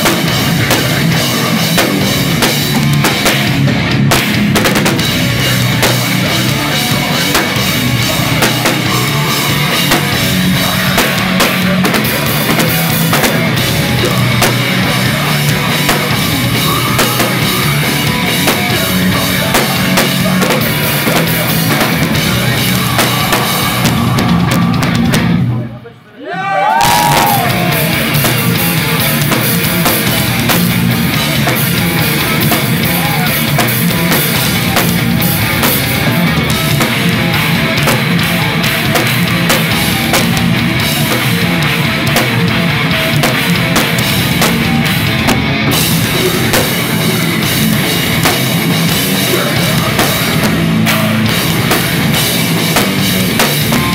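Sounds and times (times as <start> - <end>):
drum kit pounding: 0.0 - 25.6, 26.6 - 53.9
heavy metal band playing live: 0.0 - 25.6, 26.6 - 53.9.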